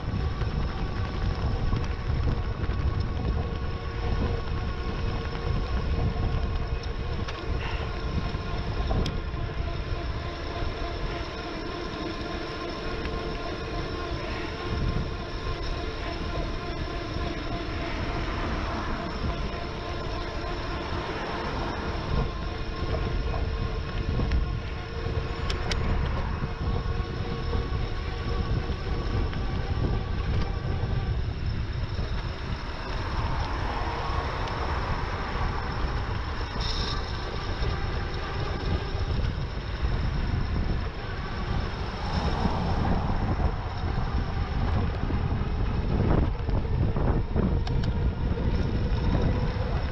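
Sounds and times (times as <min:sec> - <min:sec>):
passing noise: 0:00.0 - 0:49.9
steady multi-tone whine: 0:00.0 - 0:49.9
wind rumbling on microphone: 0:00.0 - 0:49.9.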